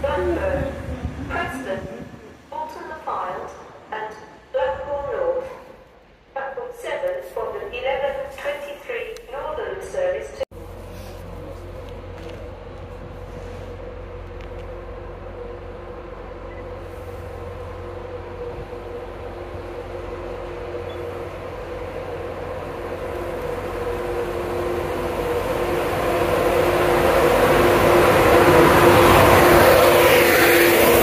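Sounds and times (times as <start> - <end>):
wheels rumbling on rails: 0.0 - 6.4, 7.0 - 31.0
passenger train approaching: 0.0 - 31.0.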